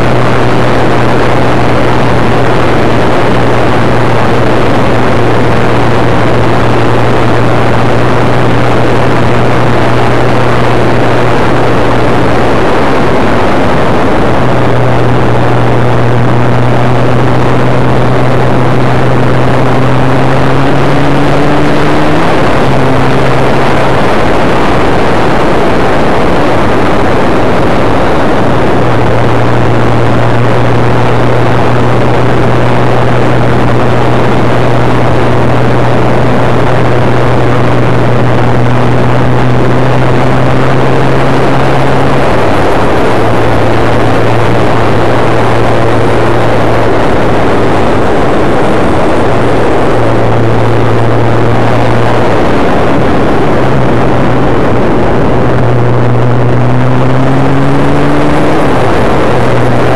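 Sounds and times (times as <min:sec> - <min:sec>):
motorcycle engine cruising: 0:00.0 - 0:59.9
wind rushing on microphone: 0:00.0 - 0:59.9.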